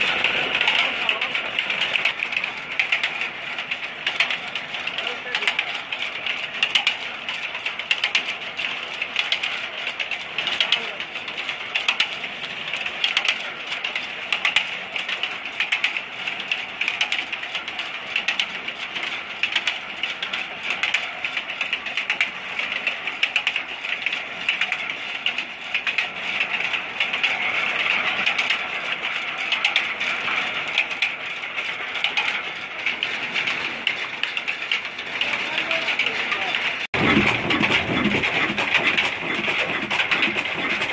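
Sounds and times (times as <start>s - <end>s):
belts and machinery clattering: 0.0s - 40.9s.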